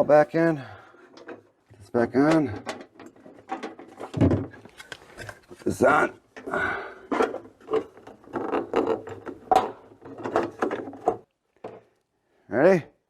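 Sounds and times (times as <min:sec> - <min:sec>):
plastic parts clicking and knocking: 0:00.9 - 0:05.7, 0:06.3 - 0:12.0.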